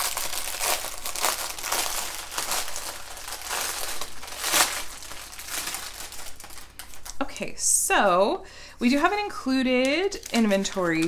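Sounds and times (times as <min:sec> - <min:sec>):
plastic wrapping crinkling: 0:00.0 - 0:07.5, 0:08.8 - 0:11.0.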